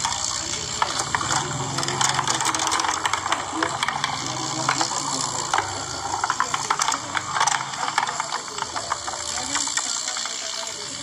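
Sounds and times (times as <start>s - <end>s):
small plastic parts clattering: 0.0s - 11.0s.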